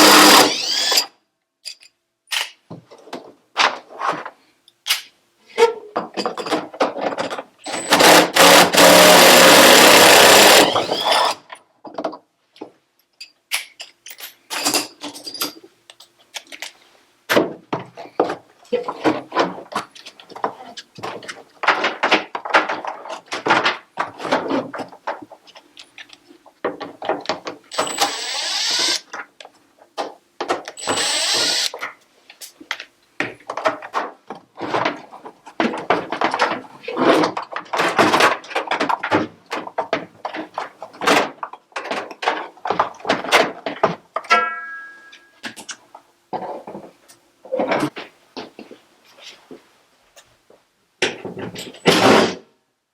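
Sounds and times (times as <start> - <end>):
parts clattering and knocking: 0.0 - 4.4, 5.8 - 48.9, 51.0 - 52.4.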